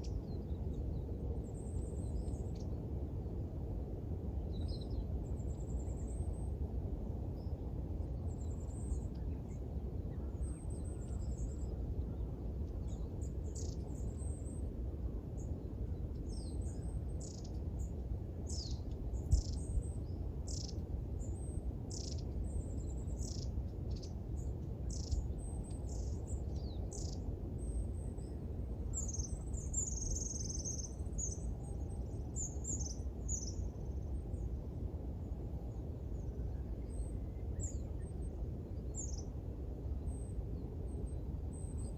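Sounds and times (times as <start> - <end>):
low background rumble: 0.0 - 41.9
small songbirds chirping: 0.0 - 41.9.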